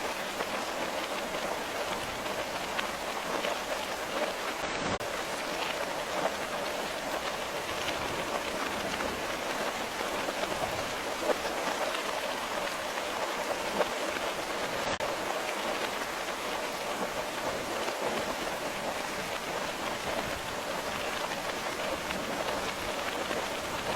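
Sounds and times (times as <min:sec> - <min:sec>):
rain on hard surface: 0:00.0 - 0:23.9.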